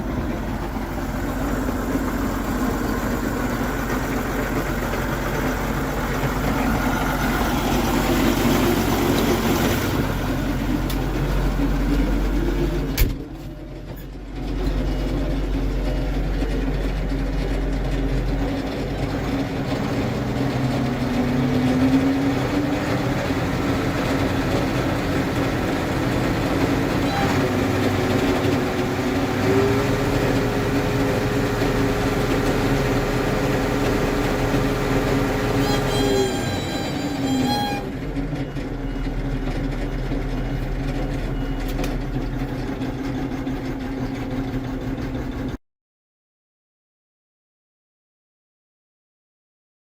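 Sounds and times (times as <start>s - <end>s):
tractor diesel engine running: 0.0s - 45.6s.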